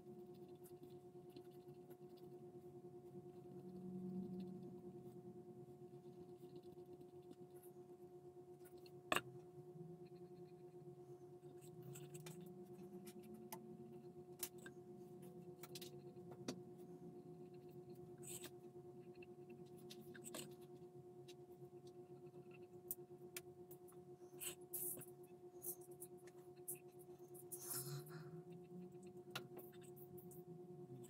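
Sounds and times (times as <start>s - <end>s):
faint room hum: 0.0s - 31.0s.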